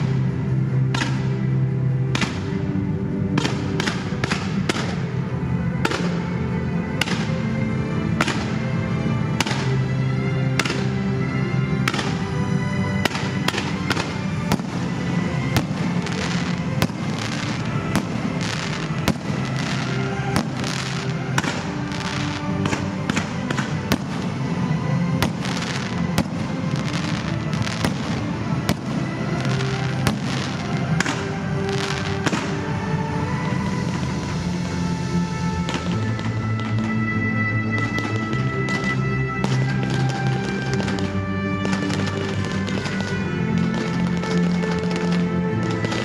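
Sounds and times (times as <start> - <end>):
fireworks bangs and crackles: 0.0 - 1.5, 2.1 - 7.5, 8.1 - 8.7, 9.3 - 46.0
loud recorded music: 0.0 - 46.0.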